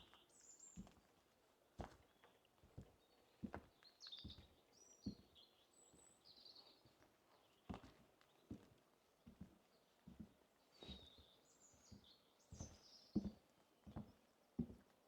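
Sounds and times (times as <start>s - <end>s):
small birds chirping: 0.0s - 1.2s, 2.0s - 14.8s
faint footsteps on forest path: 0.0s - 15.0s.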